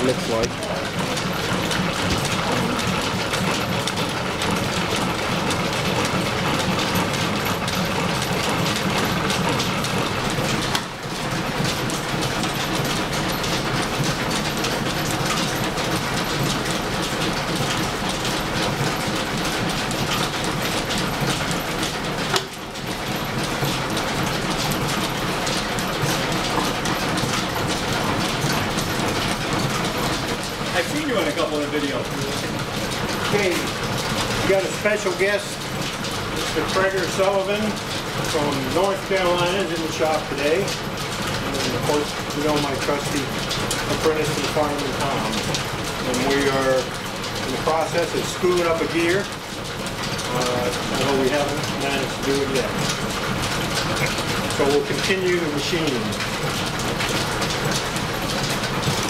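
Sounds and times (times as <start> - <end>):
milling machine clattering: 0.0 - 59.0.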